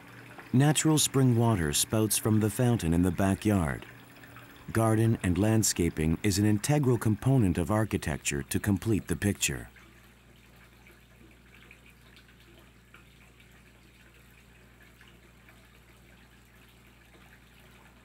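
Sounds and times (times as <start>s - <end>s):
water trickling into stone basin: 0.0s - 18.0s.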